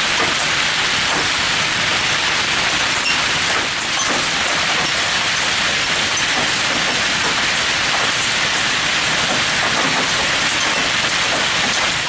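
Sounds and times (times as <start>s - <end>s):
hail beating down: 0.0s - 12.0s
heavy rain: 0.0s - 12.0s.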